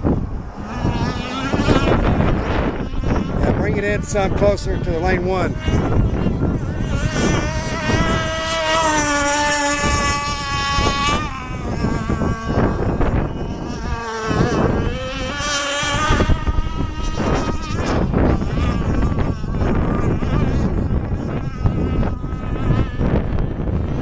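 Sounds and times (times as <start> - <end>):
model boat engines whining: 0.0 - 24.0.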